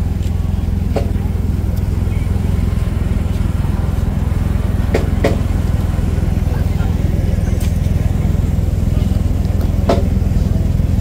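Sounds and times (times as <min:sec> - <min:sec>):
crowd voices: 0:00.0 - 0:11.0
low outdoor rumble: 0:00.0 - 0:11.0.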